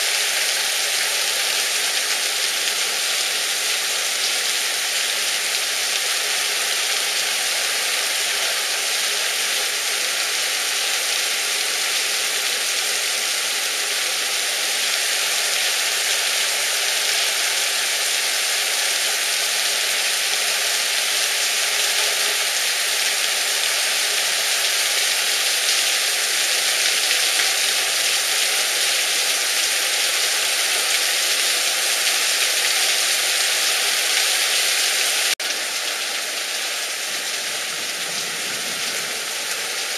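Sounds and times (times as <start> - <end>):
torrential rain on a street: 0.0 - 39.9.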